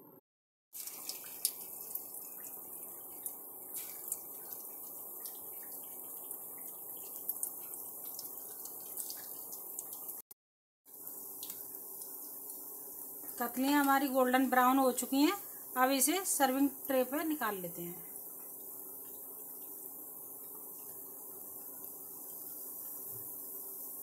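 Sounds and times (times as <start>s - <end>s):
deep-frying sizzle with pops: 0.7s - 10.3s, 10.9s - 24.0s.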